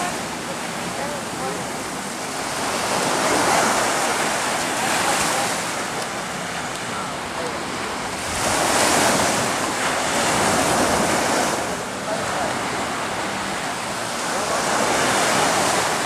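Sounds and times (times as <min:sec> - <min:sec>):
small waves breaking in surf: 0:00.0 - 0:16.0
wind on microphone: 0:00.0 - 0:16.0.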